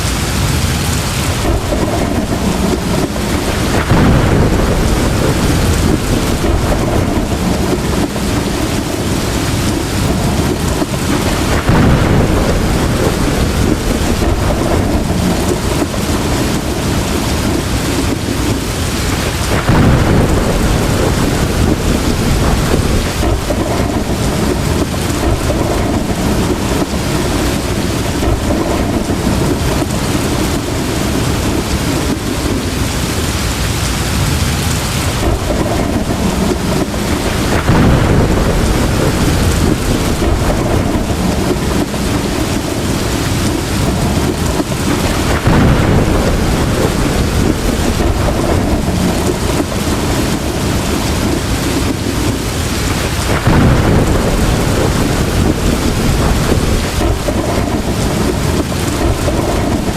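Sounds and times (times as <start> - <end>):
heavy rain pouring: 0.0 - 59.9
low rumble of thunder: 0.0 - 59.9.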